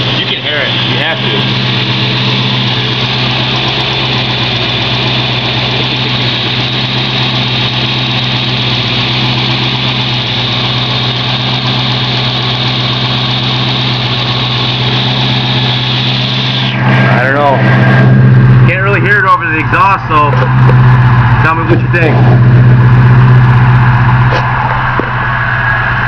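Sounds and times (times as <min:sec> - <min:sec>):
car engine idling loud exhaust: 0:00.0 - 0:26.0.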